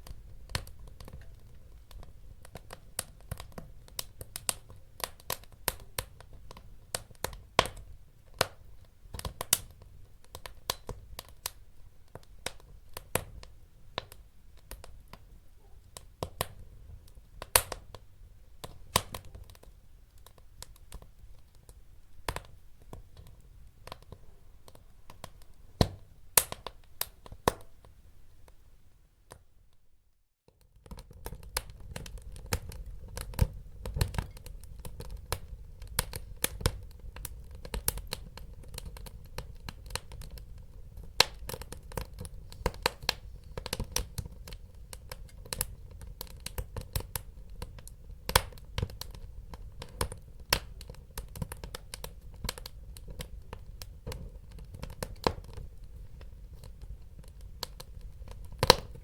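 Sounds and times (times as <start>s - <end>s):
wood fire crackling and popping: 0.0s - 27.9s, 30.5s - 59.0s
low rumble of burning: 0.0s - 28.0s, 30.5s - 59.0s.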